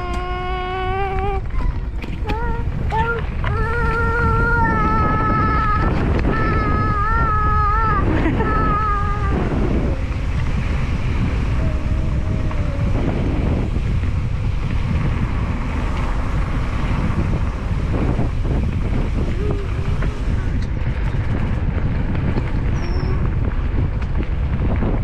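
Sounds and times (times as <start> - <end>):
tyres rumbling on dirt: 0.0 - 25.0
wind buffeting microphone: 0.0 - 25.0.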